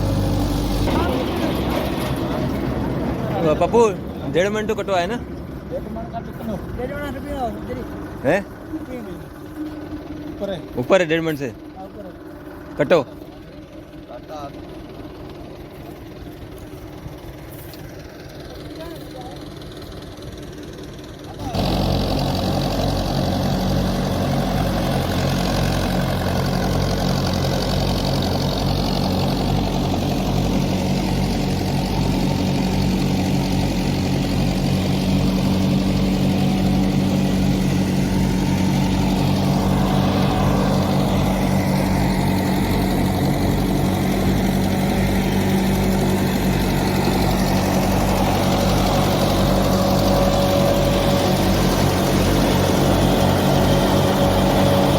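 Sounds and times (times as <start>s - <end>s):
machinery engine running steadily: 0.0s - 54.9s.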